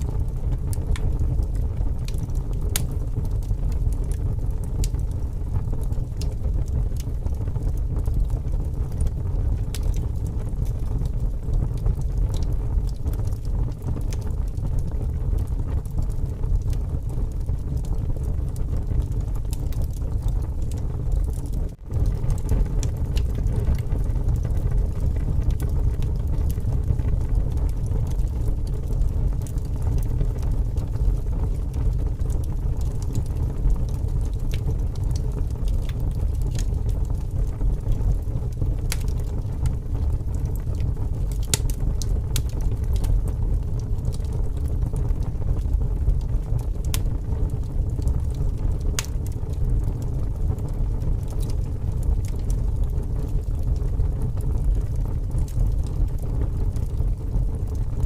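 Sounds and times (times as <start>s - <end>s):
strong wind rumble: 0.0s - 58.0s
wood fire crackling and popping: 0.0s - 58.0s.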